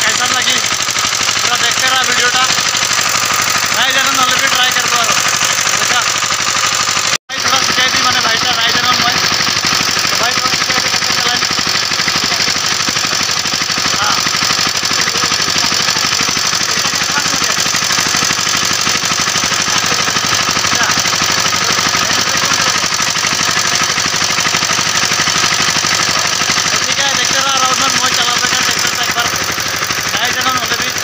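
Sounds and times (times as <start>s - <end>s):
tiller engine knocking: 0.0s - 31.0s.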